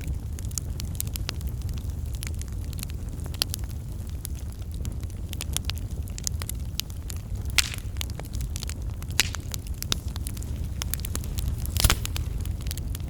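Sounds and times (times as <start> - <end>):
fire crackles and snaps: 0.0 - 13.0
fire flames rumbling: 0.0 - 13.0.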